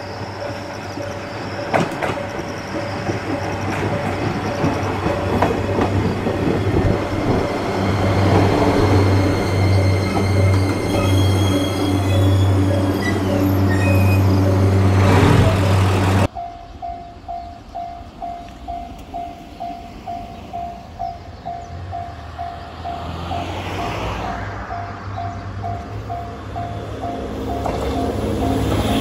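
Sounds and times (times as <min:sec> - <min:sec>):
level-crossing bell dinging: 0:00.0 - 0:29.0
railcar engine hum with whine: 0:00.0 - 0:29.0
train approaching faintly: 0:00.0 - 0:29.0.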